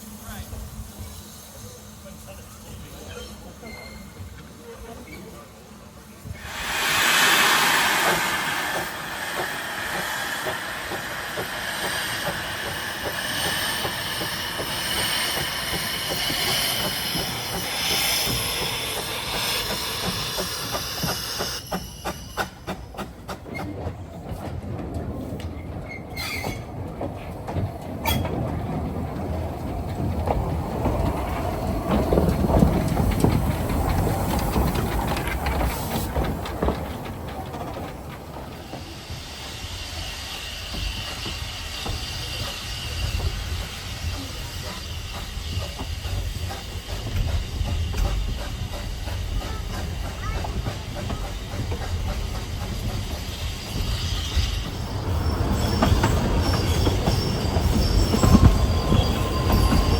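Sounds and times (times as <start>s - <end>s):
train wheels squealing on rails: 0.0s - 5.5s, 6.2s - 24.4s, 25.2s - 59.9s
low train rumble: 0.0s - 59.9s
train wheels clicking over rail joints: 6.4s - 59.9s.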